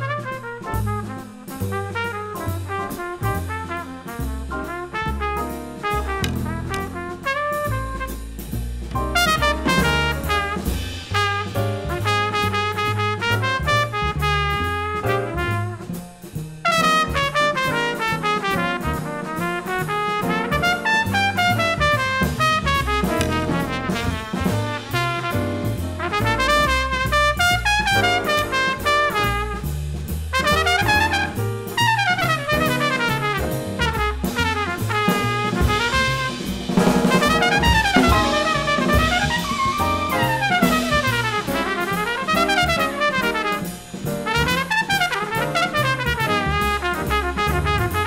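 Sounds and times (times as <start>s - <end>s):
band and drums accompanying: 0.0s - 48.0s
trumpet playing jazz runs: 0.0s - 48.0s.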